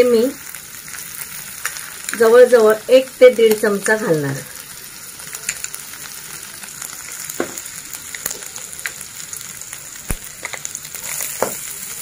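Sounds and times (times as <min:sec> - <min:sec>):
ginger sizzling in hot oil: 0:00.0 - 0:12.0.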